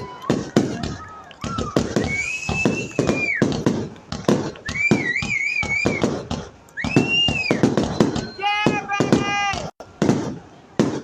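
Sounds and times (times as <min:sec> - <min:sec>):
warbling firework whistle: 0:00.0 - 0:10.4
firework high whistle: 0:00.0 - 0:11.0
fireworks bangs and crackles: 0:00.0 - 0:11.0.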